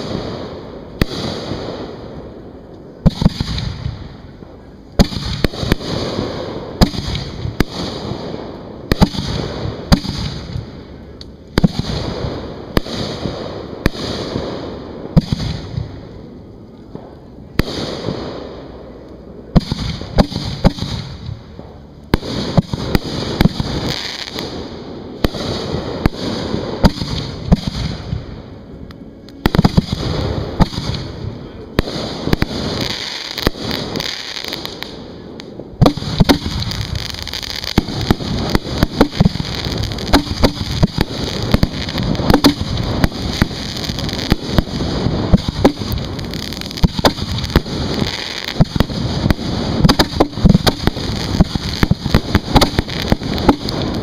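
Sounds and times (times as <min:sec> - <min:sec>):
rumbling echo: 0:00.0 - 0:32.9, 0:34.6 - 0:54.0.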